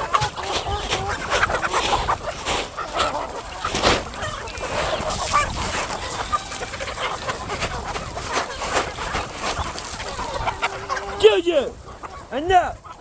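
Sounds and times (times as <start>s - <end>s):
poultry clucking and honking: 0.0s - 13.0s.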